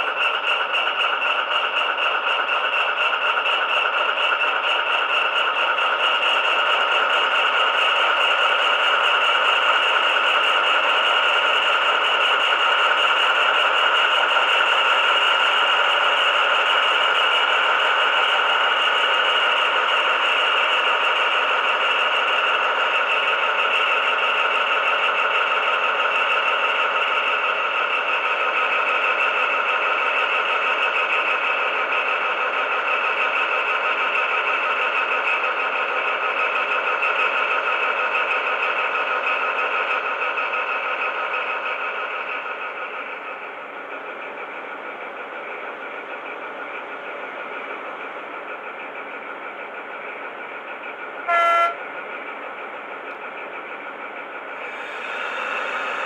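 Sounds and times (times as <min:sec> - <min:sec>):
diesel engine idling through small speaker: 0:00.0 - 0:56.0.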